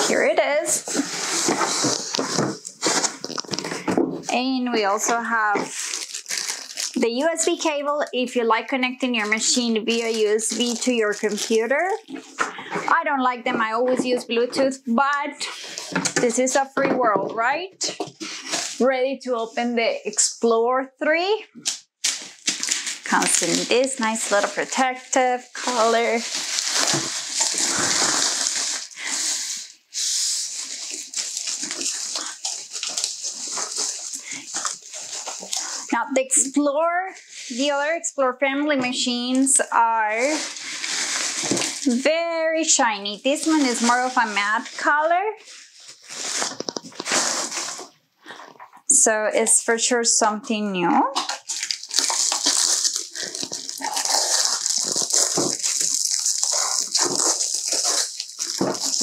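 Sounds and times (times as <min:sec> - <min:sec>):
plastic wrap rustling and crinkling: 0:00.0 - 0:20.5, 0:21.5 - 0:38.1, 0:38.8 - 0:48.9, 0:51.0 - 0:59.0.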